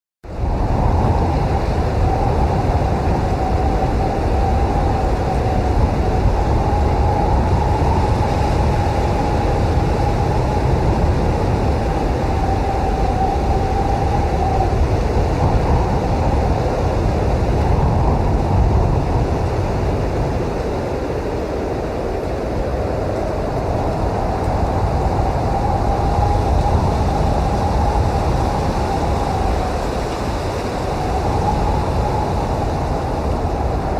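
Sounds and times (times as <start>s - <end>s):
blizzard wind rumbling: 0.2s - 33.9s
wavering wind whistle: 0.3s - 33.9s.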